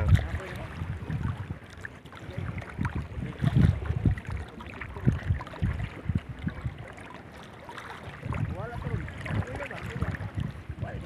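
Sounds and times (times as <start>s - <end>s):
seawater sloshing around legs: 0.0s - 11.0s
wind buffeting microphone: 0.0s - 11.0s.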